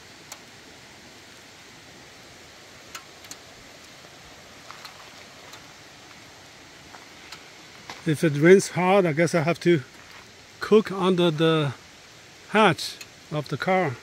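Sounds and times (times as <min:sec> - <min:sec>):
light rain hissing: 0:00.0 - 0:14.0
raindrops ticking on surfaces: 0:00.0 - 0:14.0.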